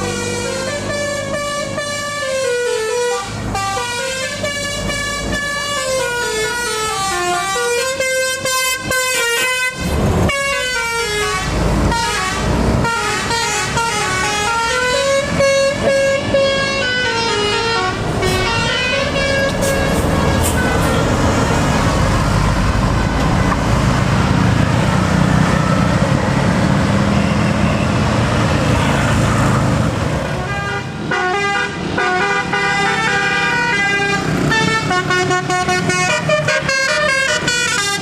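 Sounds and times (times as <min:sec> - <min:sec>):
bus horn playing a melody: 0:00.0 - 0:21.9, 0:28.8 - 0:38.0.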